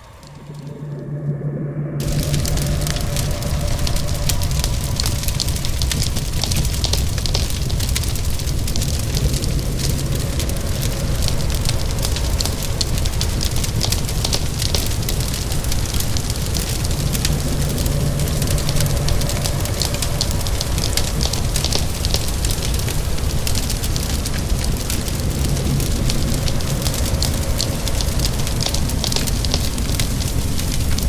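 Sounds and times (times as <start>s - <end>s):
fire crackling and popping: 0.0s - 1.1s, 2.0s - 31.0s
rain falling: 0.0s - 1.2s, 2.0s - 31.0s
low rumble: 0.0s - 31.0s.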